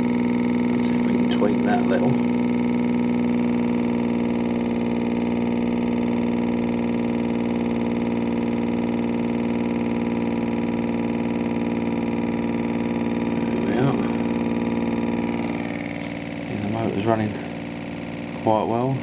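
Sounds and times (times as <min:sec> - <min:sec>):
pulse motor buzzing hum: 0:00.0 - 0:19.0.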